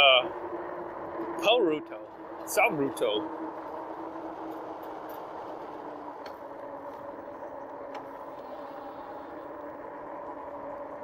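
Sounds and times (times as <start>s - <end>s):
electric bike motor hum: 0.0s - 11.0s.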